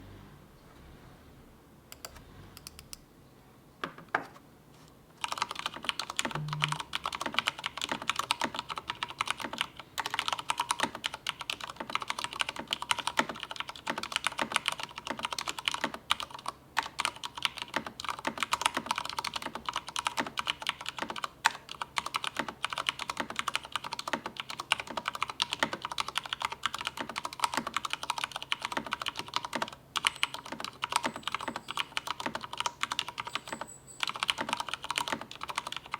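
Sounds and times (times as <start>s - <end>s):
mechanical keyboard typing: 5.2s - 35.9s.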